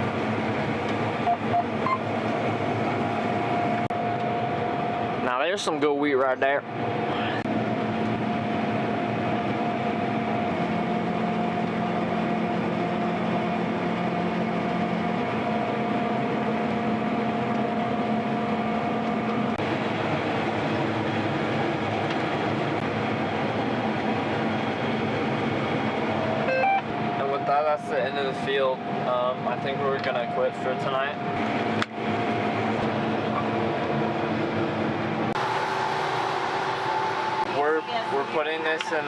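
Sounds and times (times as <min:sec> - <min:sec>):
combine harvester drone: 0:00.0 - 0:39.0
steady whine: 0:00.0 - 0:39.0.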